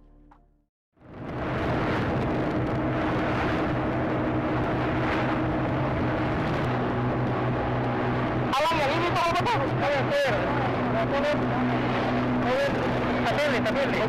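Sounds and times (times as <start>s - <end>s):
road and wind noise: 1.0s - 14.0s
vehicle engine humming: 2.2s - 14.0s.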